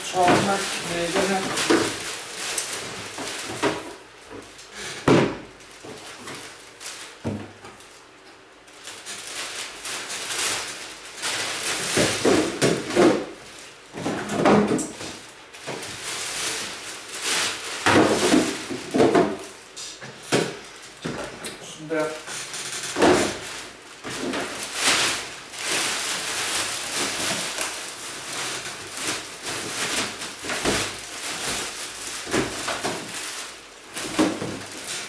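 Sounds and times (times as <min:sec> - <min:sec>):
rustling of bags: 0:00.0 - 0:35.0.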